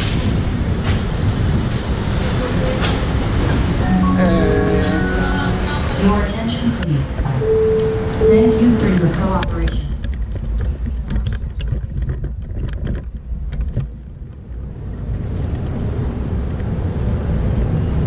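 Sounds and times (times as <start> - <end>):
people-mover car rumble: 0.0 - 18.0.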